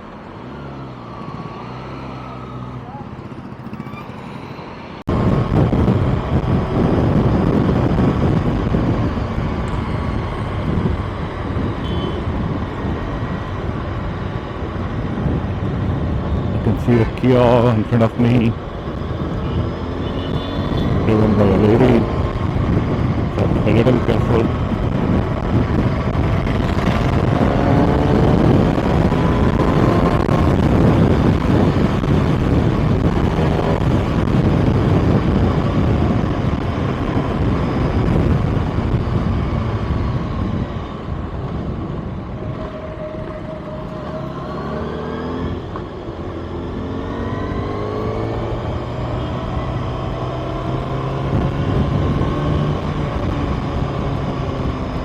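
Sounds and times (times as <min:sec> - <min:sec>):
motorcycle engine accelerating: 0:00.3 - 0:55.0
wind rush: 0:04.6 - 0:19.9, 0:20.6 - 0:55.0.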